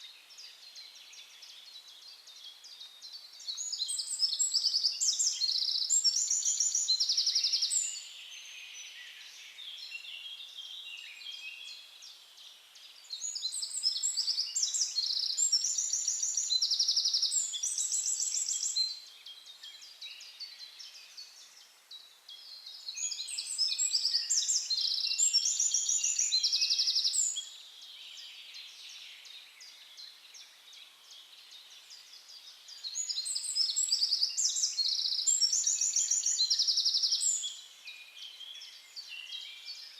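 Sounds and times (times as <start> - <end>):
faint bird chirping: 0.0 - 39.9
songbird singing trills: 0.0 - 39.9.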